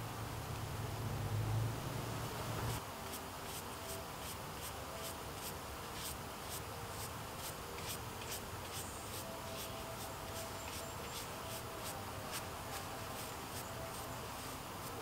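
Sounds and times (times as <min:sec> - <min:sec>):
brush scrubbing mushroom: 0:02.6 - 0:15.0.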